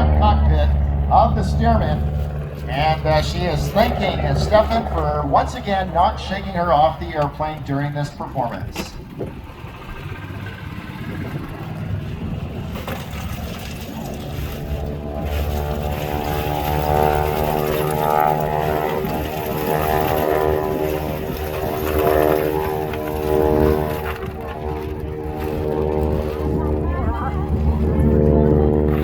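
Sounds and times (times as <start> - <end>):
biplane engine droning: 0.0 - 29.0.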